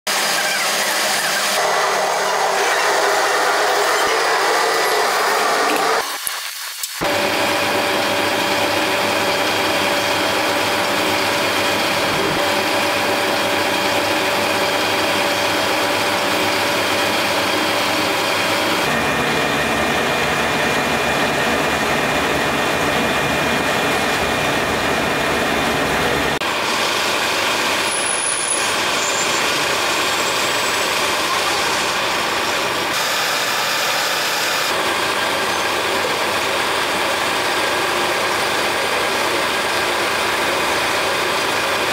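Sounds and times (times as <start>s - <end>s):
factory machinery drone: 0.1s - 41.9s
constant machine tones: 7.0s - 41.9s.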